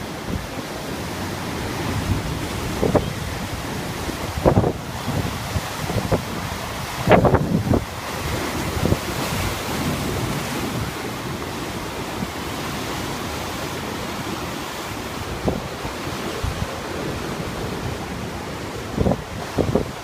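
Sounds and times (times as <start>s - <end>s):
surf crashing against rocks: 0.0s - 20.0s
wind buffeting microphone: 0.0s - 20.0s.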